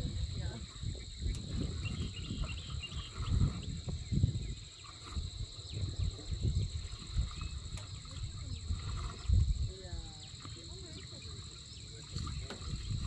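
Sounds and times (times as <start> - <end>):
faint bird chirps: 0.6 - 13.0.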